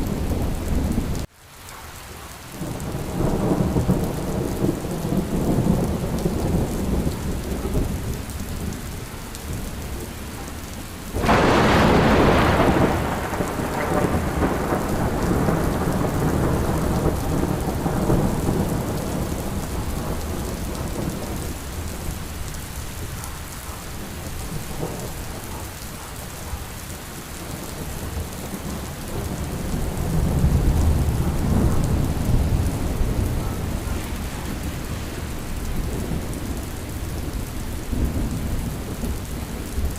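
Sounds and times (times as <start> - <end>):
steady rain: 0.0 - 39.9
thunder rumbling: 2.6 - 39.9.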